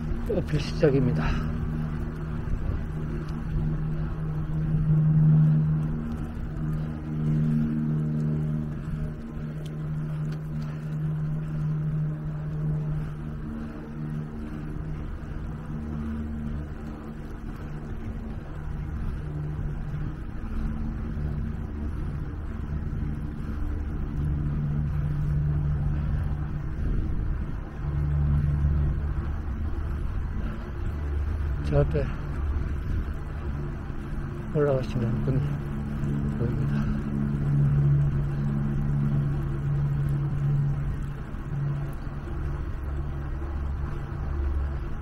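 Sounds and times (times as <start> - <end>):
electric bicycle motor humming: 0.0 - 45.0
low rumble: 0.0 - 45.0.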